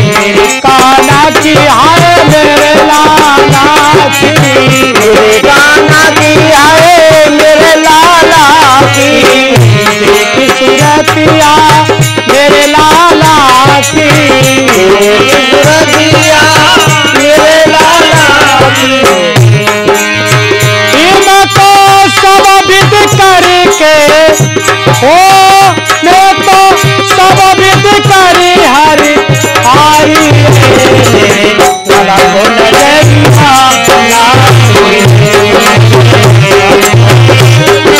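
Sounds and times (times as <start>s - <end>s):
drum beat: 0.0s - 37.9s
harmonium playing: 0.0s - 37.9s
man singing: 0.0s - 37.9s.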